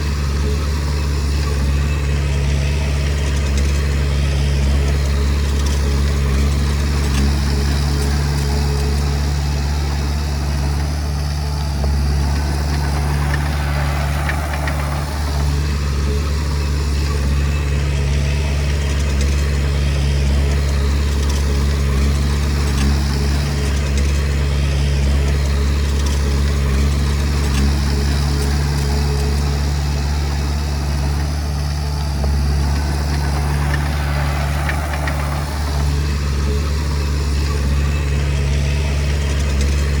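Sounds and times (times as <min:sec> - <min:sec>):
diesel engine humming: 0:00.0 - 0:40.0.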